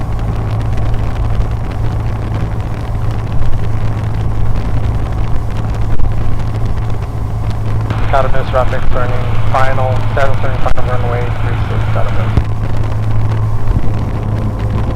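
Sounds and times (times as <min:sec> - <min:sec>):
airplane engine and propeller droning: 0:00.0 - 0:14.9.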